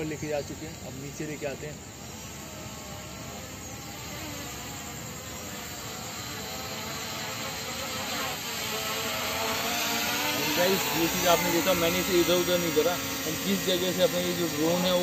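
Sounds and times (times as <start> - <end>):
drone propellers whirring: 0.0 - 15.0.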